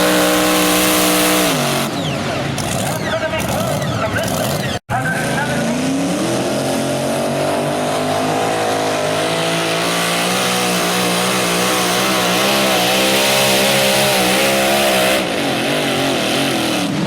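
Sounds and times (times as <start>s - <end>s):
tractor engine at high revs: 0.0s - 17.0s.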